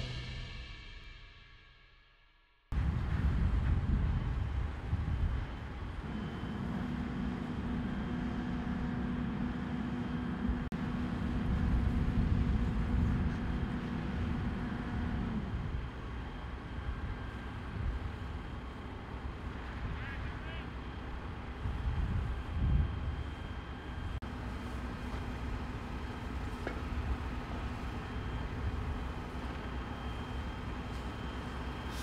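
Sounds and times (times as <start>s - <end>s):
steady hum: 2.7s - 32.0s
low engine rumble with hiss: 2.8s - 32.0s.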